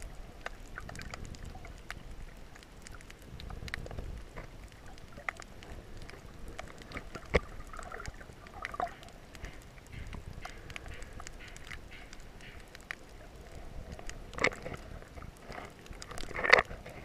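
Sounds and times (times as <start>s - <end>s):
crackling clicks: 0.0s - 17.0s
muffled underwater water rumble: 0.0s - 17.0s.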